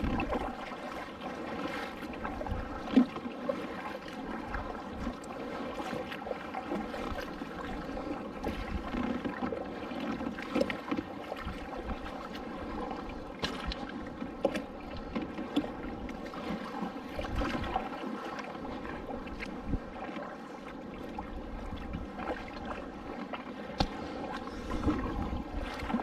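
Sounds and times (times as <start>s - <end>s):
paddle blades dipping: 0.0s - 26.0s
small waves slapping the hull: 0.0s - 26.0s
water splashing around a kayak: 0.0s - 26.0s.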